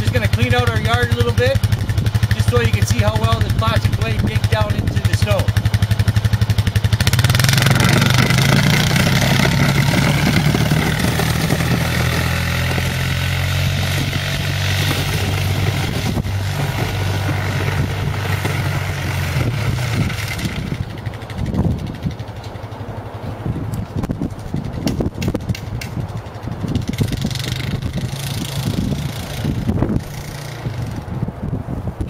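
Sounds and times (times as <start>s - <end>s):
plow blade pushing through snow: 0.0s - 23.4s, 26.2s - 31.2s
atv engine running under load: 0.0s - 32.0s.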